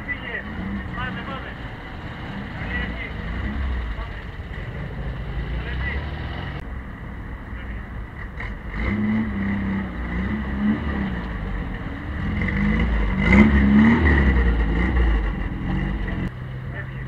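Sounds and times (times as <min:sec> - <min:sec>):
car engine revving: 0:00.0 - 0:06.7, 0:07.6 - 0:16.8
car engines idling: 0:00.0 - 0:17.0.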